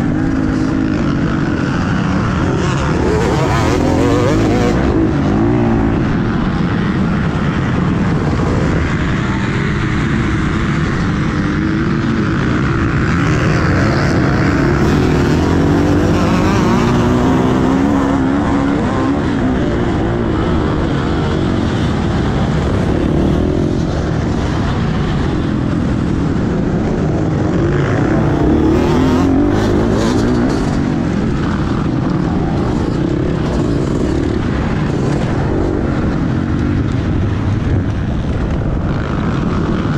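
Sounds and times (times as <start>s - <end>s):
dirt bike engine running hard: 0.0s - 39.9s.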